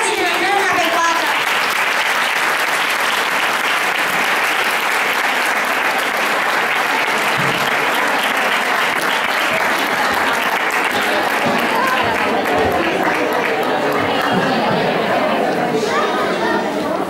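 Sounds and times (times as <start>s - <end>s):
audience applauding: 0.0s - 15.6s.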